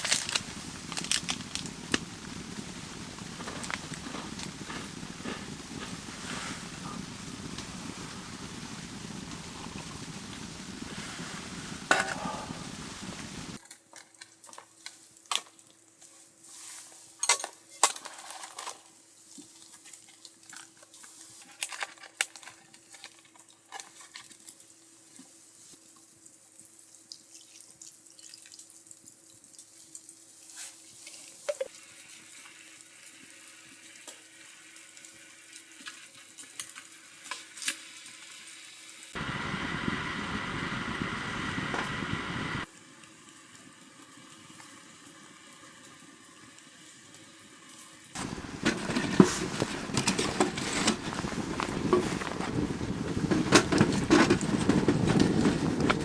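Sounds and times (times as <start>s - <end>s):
faint sizzle: 0.0s - 53.3s.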